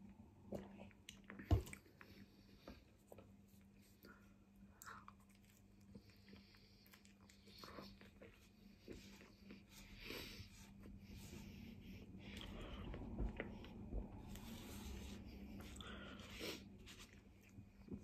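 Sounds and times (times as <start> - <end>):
person chewing food: 0.4 - 18.0.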